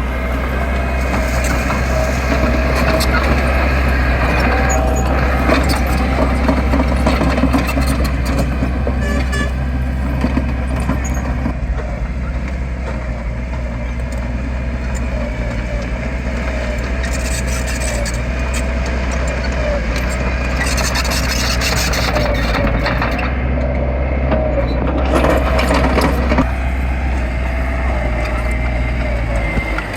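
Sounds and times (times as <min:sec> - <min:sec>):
diesel machinery engine rumbling: 0:00.0 - 0:29.9.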